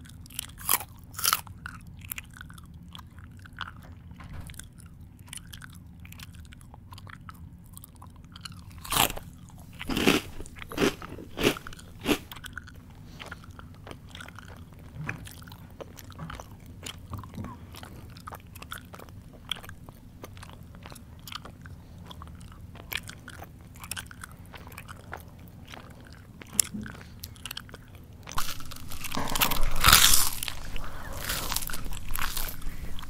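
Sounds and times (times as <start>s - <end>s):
crunching of crunchy food: 0.0s - 33.0s
wet mouth chewing clicks: 0.1s - 33.0s.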